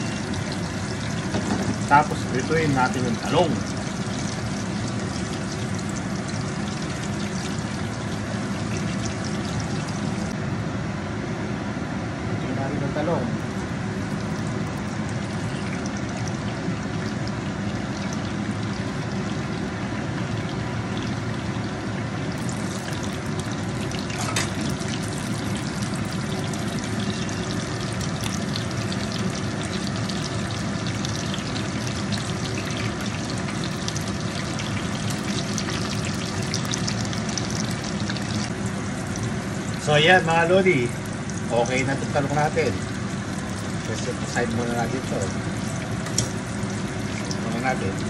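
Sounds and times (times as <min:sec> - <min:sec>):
slices frying in hot oil: 0:00.0 - 0:10.4, 0:12.5 - 0:48.0.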